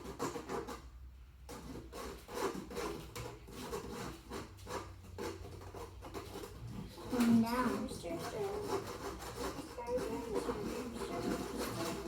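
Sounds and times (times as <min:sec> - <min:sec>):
flour sifter scratching: 0:01.6 - 0:12.0.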